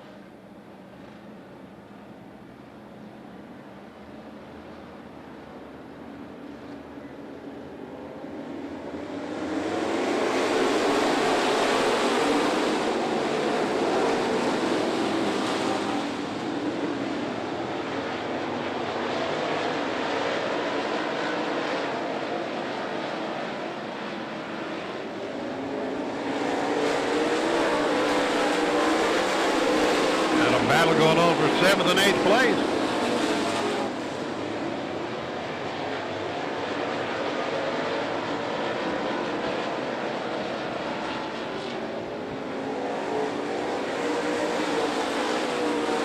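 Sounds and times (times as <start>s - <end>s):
race car engines droning: 0.0s - 46.0s.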